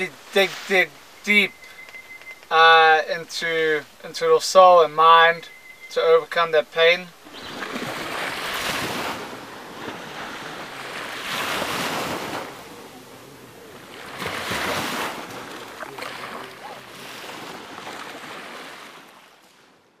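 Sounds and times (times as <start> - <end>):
small waves breaking on sand: 0.0 - 4.1, 6.8 - 20.0.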